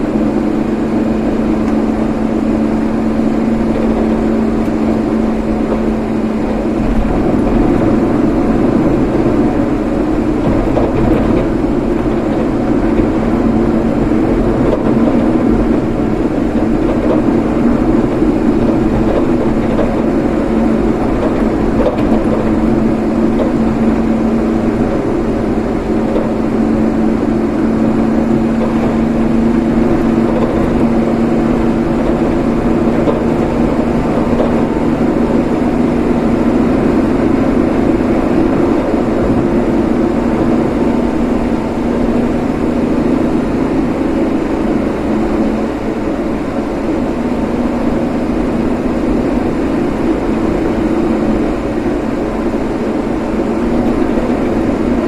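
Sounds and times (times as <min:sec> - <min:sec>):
car engine drone: 0:00.0 - 0:55.0
road and tyre noise: 0:00.0 - 0:55.0.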